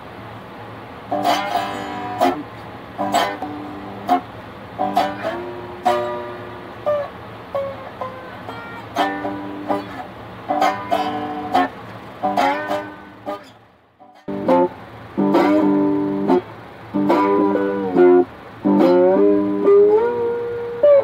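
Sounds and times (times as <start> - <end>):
slide guitar notes and chords: 1.1 - 21.0.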